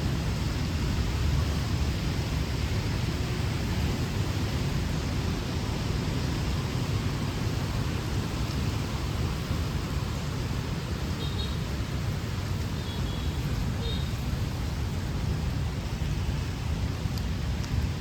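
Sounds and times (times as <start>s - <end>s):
city traffic rumble: 0.0s - 18.0s
rain hiss: 0.0s - 18.0s.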